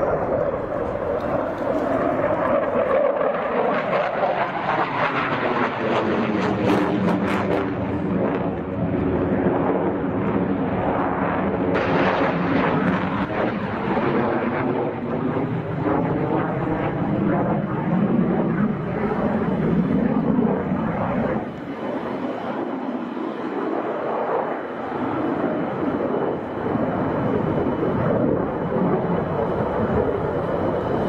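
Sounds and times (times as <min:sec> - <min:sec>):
jet roar overhead: 0:00.0 - 0:31.0.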